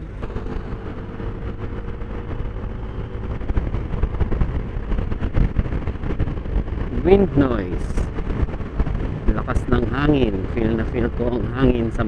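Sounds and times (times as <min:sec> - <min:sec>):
motorcycle engine rumble: 0:00.0 - 0:12.0
traffic: 0:00.0 - 0:12.0
wind buffeting microphone: 0:00.0 - 0:12.0.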